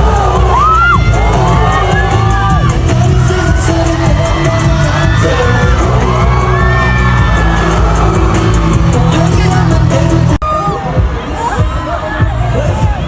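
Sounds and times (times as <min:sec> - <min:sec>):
heavy bass line: 0:00.0 - 0:13.0
pop concert music over speakers: 0:00.0 - 0:13.0
voices singing and whooping: 0:00.0 - 0:13.0.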